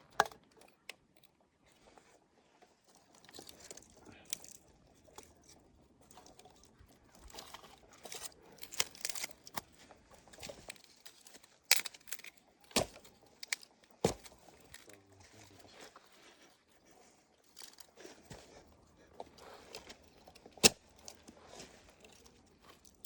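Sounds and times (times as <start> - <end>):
crunching and crinkling handling: 0.0 - 23.0.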